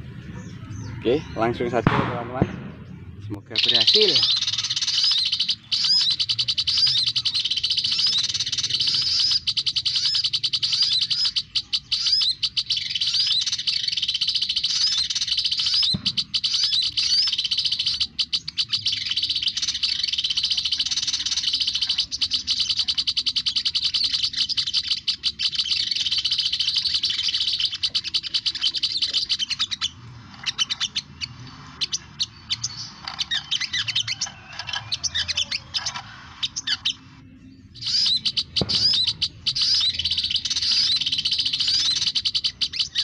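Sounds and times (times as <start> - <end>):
bird chittering from speaker: 0.0 - 43.0.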